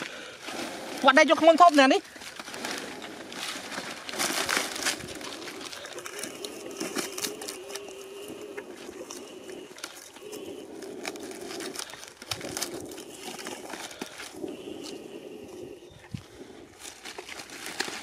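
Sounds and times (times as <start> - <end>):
leaves rustling: 0.0 - 18.0
twigs crackling: 0.0 - 18.0.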